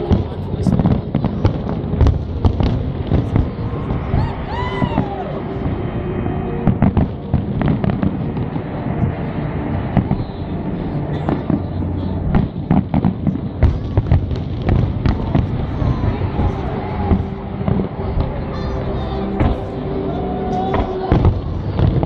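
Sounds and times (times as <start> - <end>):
fireworks bangs and crackles: 0.0 - 22.0
low background rumble: 0.0 - 22.0.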